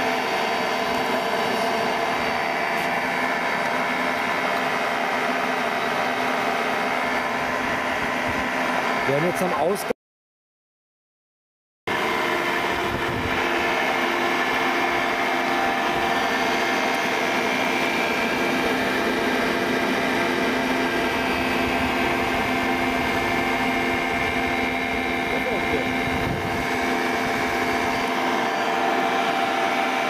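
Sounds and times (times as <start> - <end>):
motor generator humming and whining: 0.0 - 10.0, 11.9 - 30.0.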